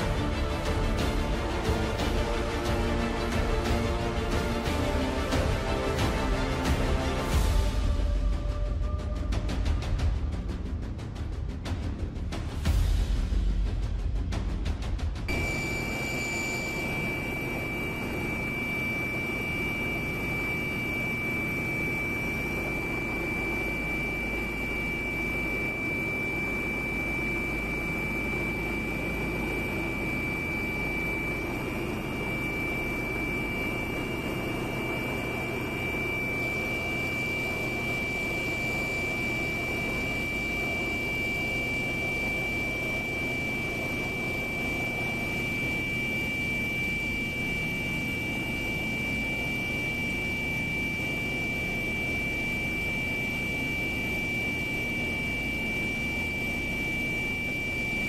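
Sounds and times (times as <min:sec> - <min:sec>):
jet engines humming: 0:00.0 - 0:10.2, 0:15.3 - 0:58.0
high-pitched whine: 0:00.0 - 0:58.0.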